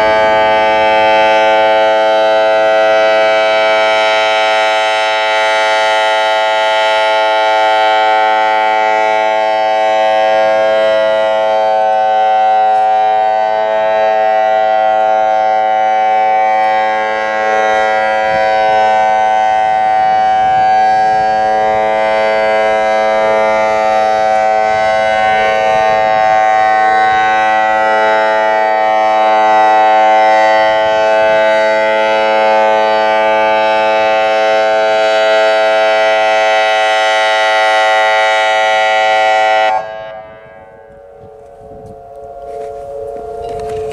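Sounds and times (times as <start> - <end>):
electronic warning siren two-tone chord: 0.0 - 43.9.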